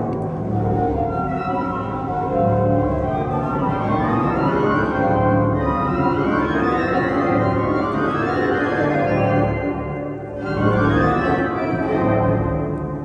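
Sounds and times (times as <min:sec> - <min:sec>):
pipe organ chords: 0:00.0 - 0:13.0.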